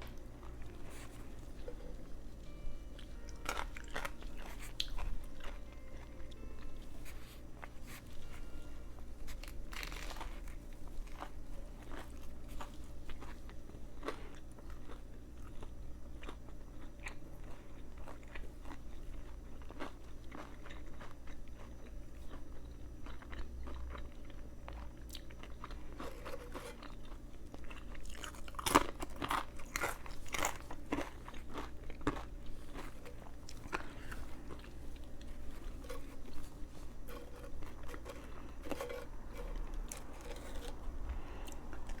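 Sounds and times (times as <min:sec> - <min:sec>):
person chewing crunchy sandwich: 0:00.0 - 0:42.0.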